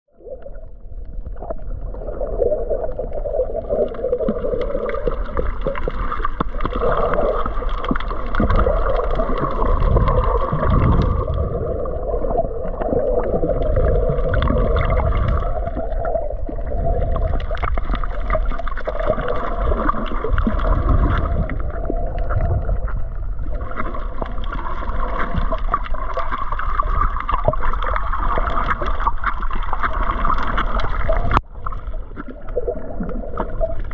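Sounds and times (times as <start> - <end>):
rushing gurgling water underwater: 0.1 - 33.9.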